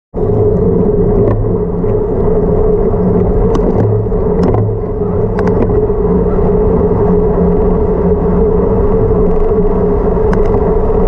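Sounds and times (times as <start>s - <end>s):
low rumble: 0.1s - 11.0s
vehicle engine drone: 0.1s - 11.0s.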